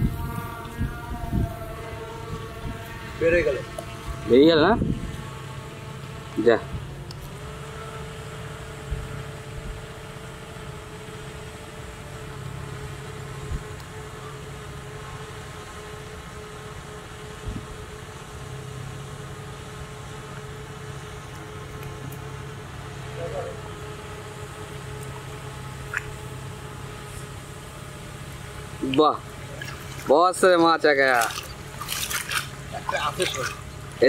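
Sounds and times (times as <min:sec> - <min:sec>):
motor humming: 0:00.0 - 0:34.0.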